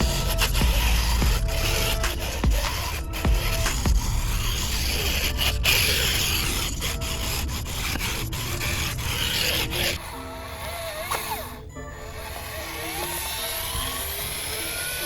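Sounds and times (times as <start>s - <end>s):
rubbing and scraping strokes: 0.0s - 15.0s.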